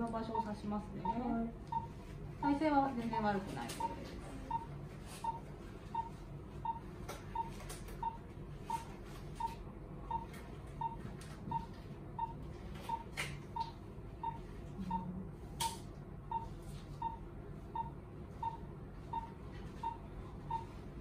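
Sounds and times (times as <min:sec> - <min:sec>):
pulse oximeter beeps: 0:00.2 - 0:02.0, 0:03.8 - 0:15.1, 0:15.7 - 0:20.8.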